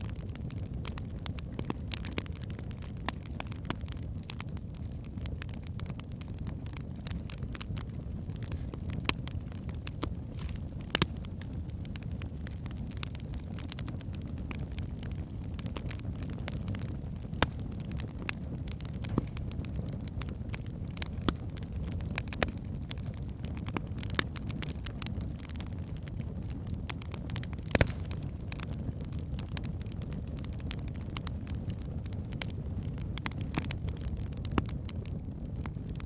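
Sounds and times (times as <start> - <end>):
fire rumbling: 0.0 - 36.0
logs crackling and popping: 0.0 - 36.0.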